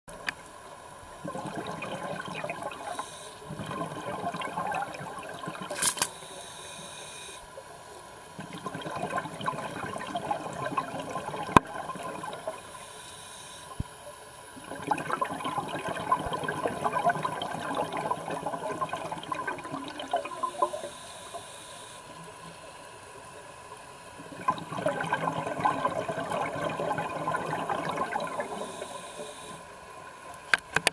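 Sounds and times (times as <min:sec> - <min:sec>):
underwater bubbling: 0:00.1 - 0:30.9.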